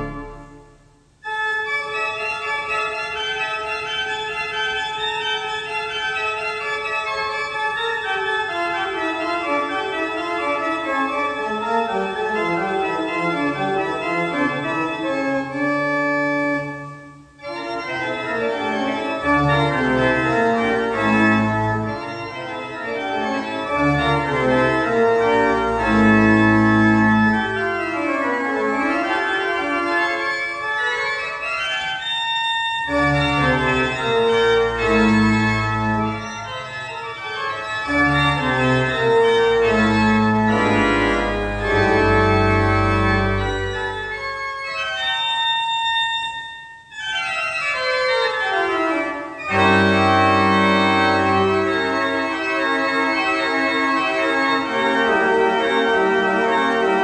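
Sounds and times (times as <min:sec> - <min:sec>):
church organ music: 0:00.0 - 0:57.0.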